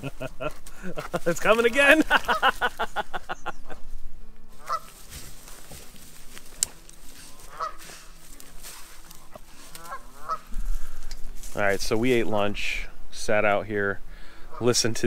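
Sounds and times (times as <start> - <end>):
geese honking: 0.0 - 3.8, 4.5 - 12.7, 13.4 - 15.0.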